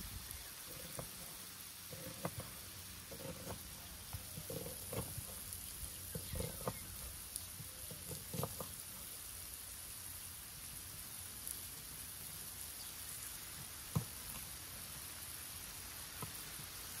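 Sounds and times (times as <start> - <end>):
fat sizzling in a pan: 0.0 - 17.0.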